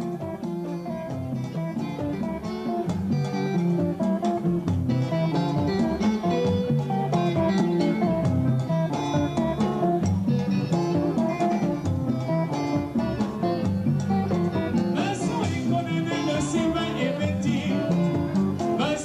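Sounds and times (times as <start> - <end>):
plucked guitars: 0.0 - 19.0
rumba band playing: 0.0 - 19.0.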